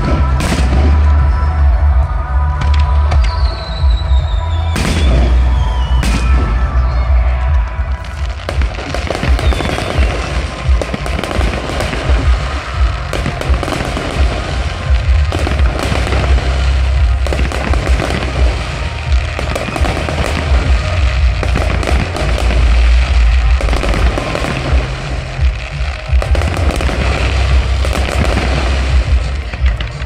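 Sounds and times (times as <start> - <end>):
fireworks crackling and banging: 0.0 - 30.0
music: 0.0 - 30.0.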